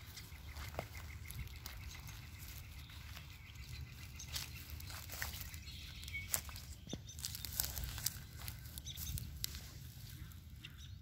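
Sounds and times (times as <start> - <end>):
footsteps through dry grass: 0.0 - 11.0.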